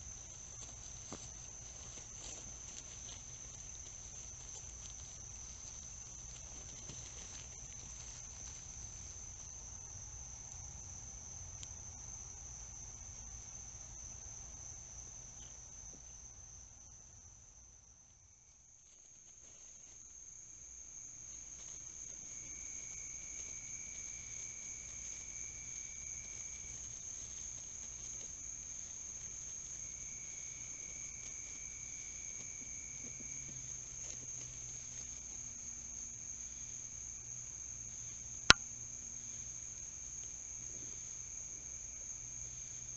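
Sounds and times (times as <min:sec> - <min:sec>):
crickets chirping: 0:00.0 - 0:42.9
lower insect trill: 0:00.0 - 0:42.9.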